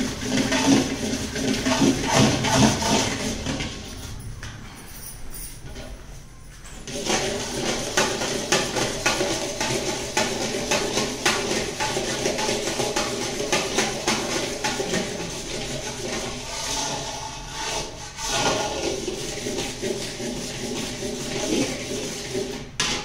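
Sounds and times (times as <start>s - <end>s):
metal ladle scraping pan: 0.0s - 3.9s, 6.9s - 23.0s.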